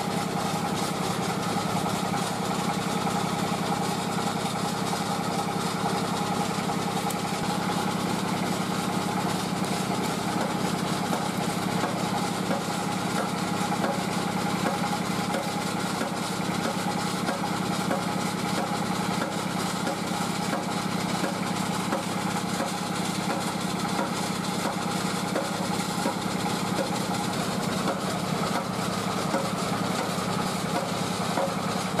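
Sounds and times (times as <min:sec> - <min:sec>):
small engine idling: 0:00.0 - 0:32.0.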